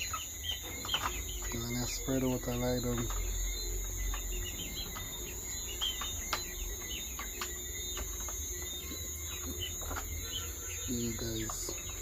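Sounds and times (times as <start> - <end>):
chicks peeping: 0.0 - 12.0
high insect drone: 0.0 - 12.0.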